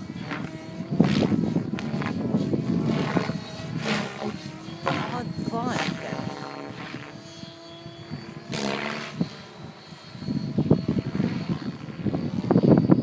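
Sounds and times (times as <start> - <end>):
rc helicopter rotor and motor: 0.0 - 13.0.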